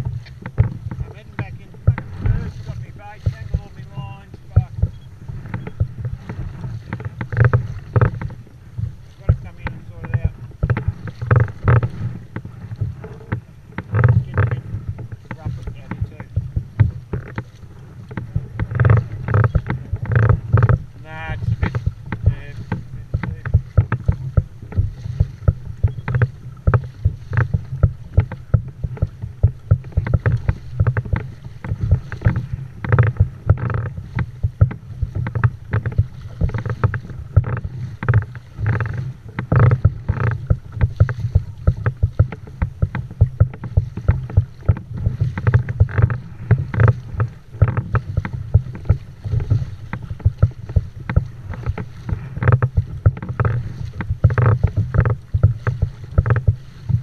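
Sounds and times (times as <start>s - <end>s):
steady low rumble: 0.0s - 57.0s
water slapping against hull: 0.0s - 57.0s.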